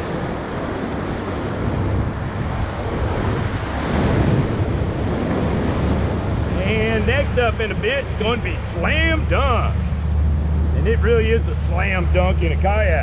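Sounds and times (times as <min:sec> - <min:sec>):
rushing river whitewater: 0:00.0 - 0:13.0
wind buffeting microphone: 0:00.0 - 0:13.0.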